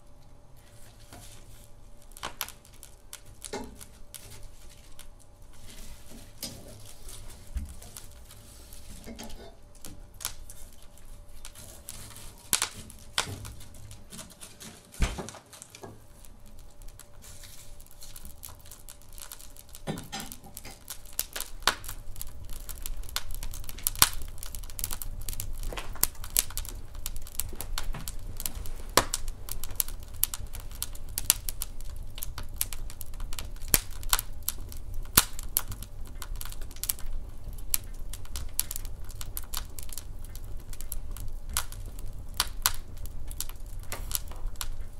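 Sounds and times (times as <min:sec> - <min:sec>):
low rumble of fire: 0:00.0 - 0:44.9
wood fire crackling: 0:00.0 - 0:44.9.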